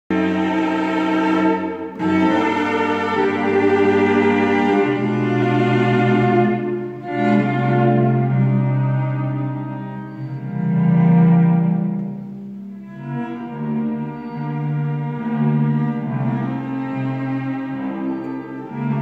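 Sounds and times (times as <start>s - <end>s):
cello ensemble bowed chords: 0.1s - 19.0s.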